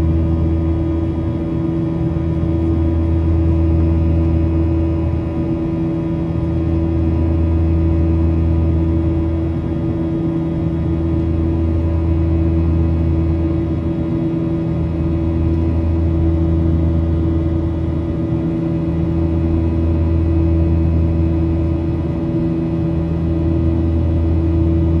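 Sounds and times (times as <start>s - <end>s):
jet engines droning in cabin: 0.0s - 25.0s.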